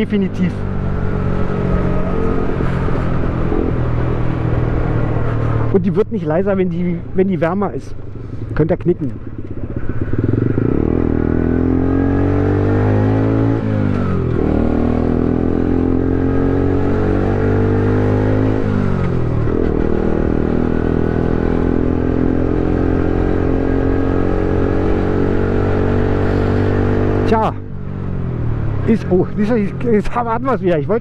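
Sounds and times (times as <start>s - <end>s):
moped engine revving through gears: 0.0s - 6.0s, 7.1s - 31.0s.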